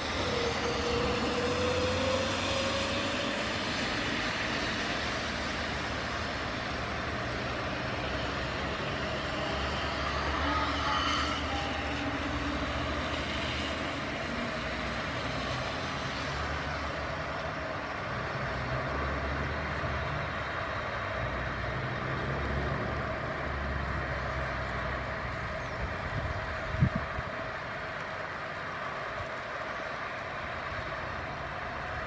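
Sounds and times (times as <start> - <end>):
jet engines at taxi power: 0.0 - 32.0.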